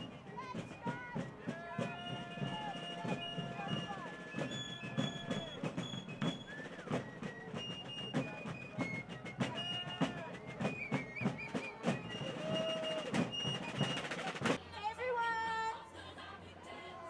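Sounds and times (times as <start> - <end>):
field drums beating: 0.0 - 14.6.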